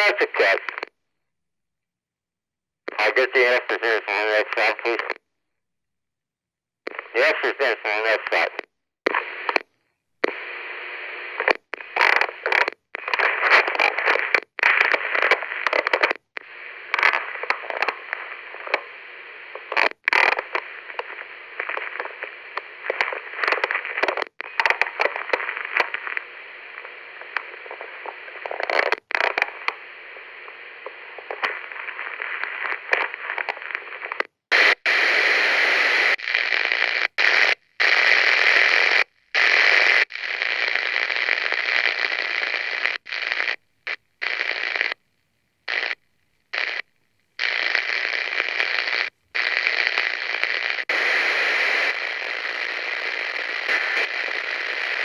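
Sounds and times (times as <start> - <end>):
walkie-talkie static: 0.0 - 1.0, 2.9 - 5.2, 6.9 - 55.0
harsh static bursts: 2.9 - 5.2, 6.9 - 45.0, 45.6 - 55.0.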